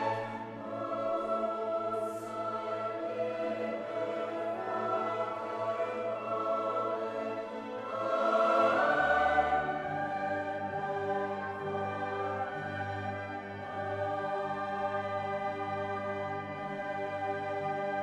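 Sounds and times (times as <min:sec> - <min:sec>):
slow orchestral chords with choir: 0:00.0 - 0:18.0.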